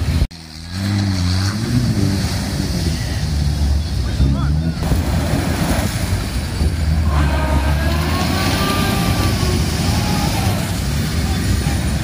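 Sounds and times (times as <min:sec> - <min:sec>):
water splashing from wheels: 0:00.0 - 0:12.0.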